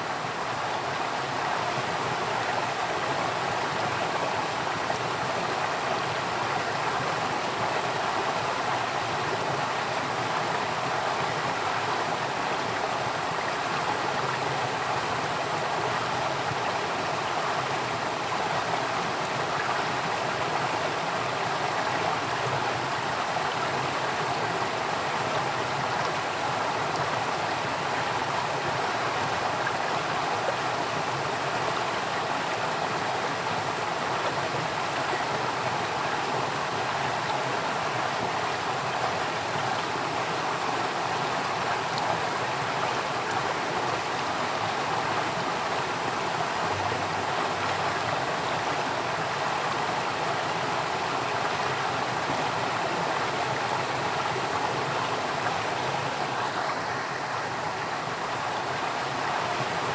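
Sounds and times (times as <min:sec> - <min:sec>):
stream water rushing and gurgling: 0:00.0 - 0:59.9.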